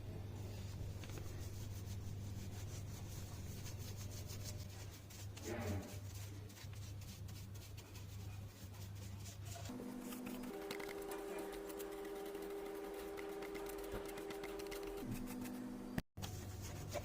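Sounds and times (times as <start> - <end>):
rubbing or scrubbing strokes: 0.5 - 17.0.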